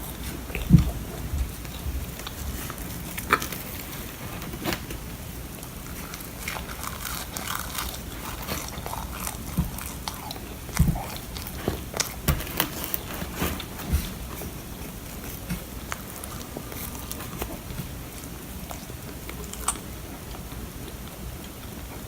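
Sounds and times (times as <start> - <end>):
person biting and chewing bread: 0.1 - 22.0
small crackles: 0.1 - 22.0.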